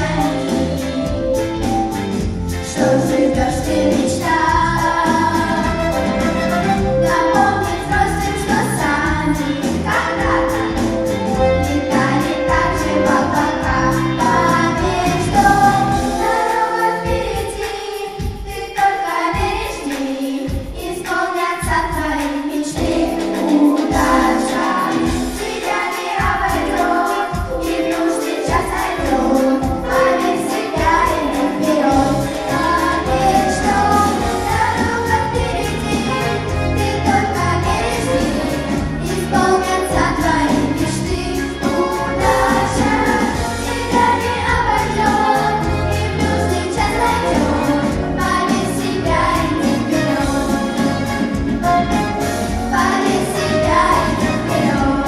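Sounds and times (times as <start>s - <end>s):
people singing: 0.0s - 1.7s, 2.5s - 55.0s
backing music with steady beat: 0.0s - 55.0s.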